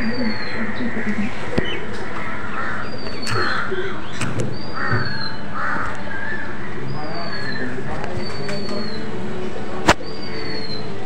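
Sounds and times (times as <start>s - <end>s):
harsh cawing bird calls: 0.0s - 9.1s.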